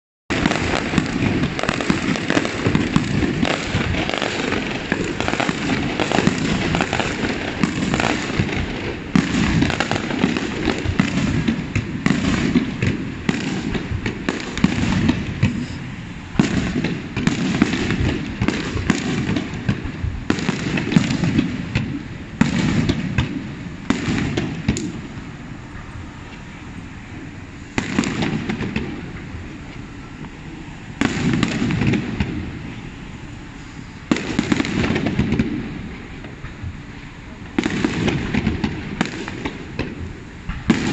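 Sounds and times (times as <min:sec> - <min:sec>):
fireworks bursting with echo: 0:00.3 - 0:40.9.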